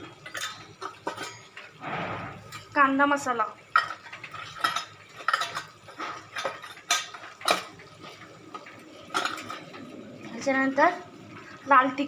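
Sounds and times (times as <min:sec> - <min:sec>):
metal utensils clinking: 0:00.0 - 0:10.8.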